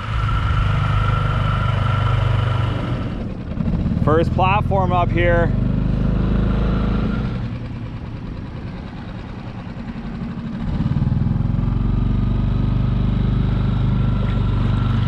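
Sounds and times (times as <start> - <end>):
small outboard motor running: 0.0 - 15.0.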